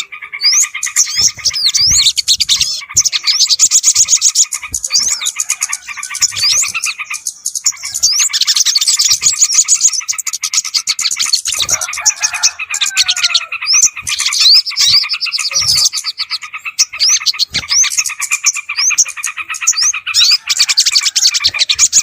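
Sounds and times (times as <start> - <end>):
small birds chattering: 0.0 - 22.0.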